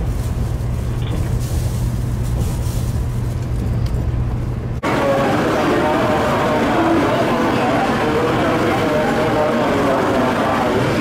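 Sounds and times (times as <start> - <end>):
train cabin low hum: 0.0 - 11.0.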